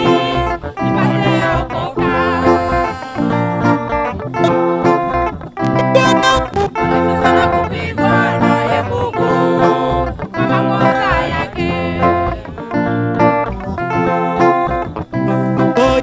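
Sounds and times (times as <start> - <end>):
person singing: 0.0 - 4.0, 5.8 - 16.0
gospel song with plucked guitar: 0.0 - 16.0.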